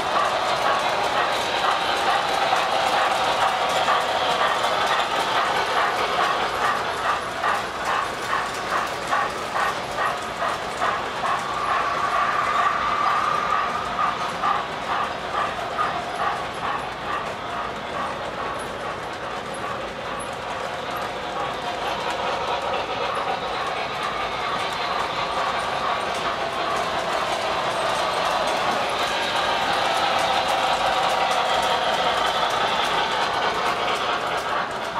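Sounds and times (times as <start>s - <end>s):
model train clattering on track: 0.0s - 34.9s.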